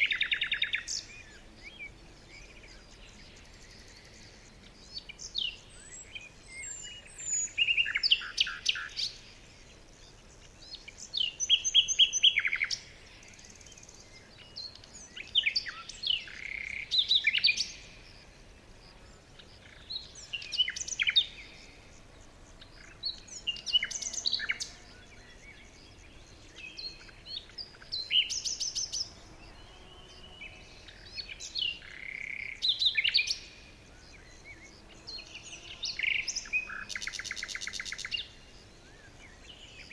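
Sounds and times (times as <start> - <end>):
faint background hiss: 0.0 - 39.9
songbirds chirping and trilling: 0.0 - 39.9.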